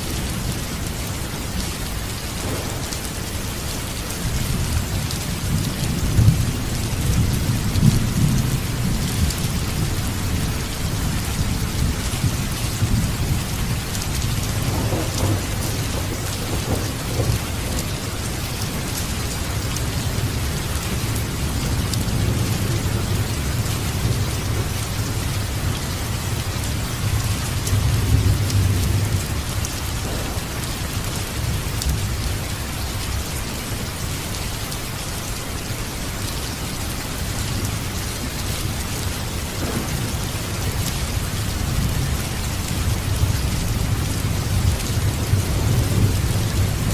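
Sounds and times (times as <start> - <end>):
steady rain: 0.0 - 46.9
rolling thunder rumble: 1.9 - 33.3, 38.6 - 46.9.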